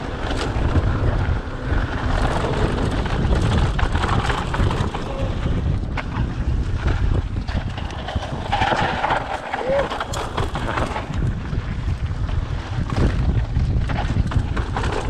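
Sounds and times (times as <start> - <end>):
bike clicks and rattles: 0.0 - 15.0
tyres rolling on dirt: 0.0 - 15.0
wind buffeting microphone: 0.0 - 15.0.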